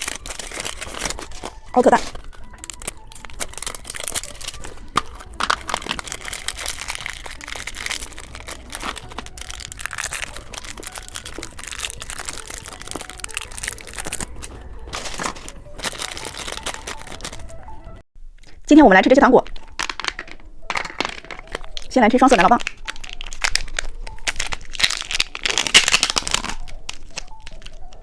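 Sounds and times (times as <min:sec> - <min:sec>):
plastic packaging crinkling: 0:00.0 - 0:17.7, 0:19.4 - 0:28.0.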